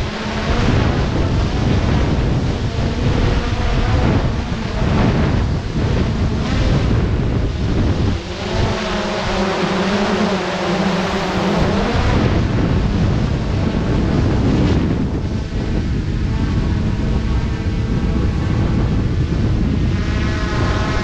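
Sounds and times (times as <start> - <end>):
drone rotor hum: 0.0 - 21.0
wind buffeting microphone: 0.0 - 21.0.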